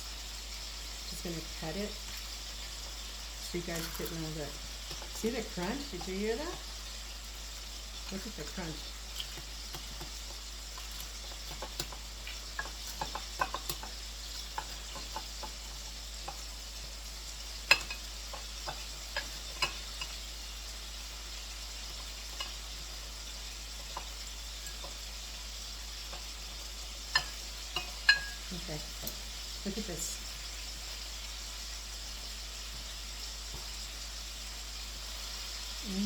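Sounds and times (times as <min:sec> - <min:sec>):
chicken frying in hot oil: 0:00.0 - 0:36.0.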